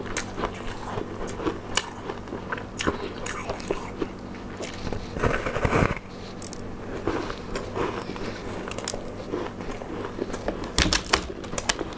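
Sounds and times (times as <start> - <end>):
ice being bitten and chewed: 0.0 - 5.1, 6.1 - 10.8.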